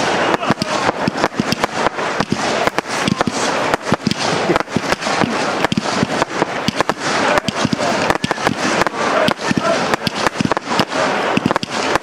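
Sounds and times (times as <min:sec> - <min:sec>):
continuous hiss: 0:00.0 - 0:12.0
fireworks bangs and pops: 0:00.0 - 0:12.0.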